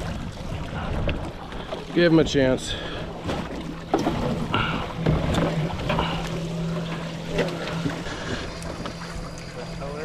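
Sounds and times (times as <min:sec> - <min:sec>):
outboard motor idling: 0:00.0 - 0:10.0
water washing against hull: 0:00.0 - 0:10.0.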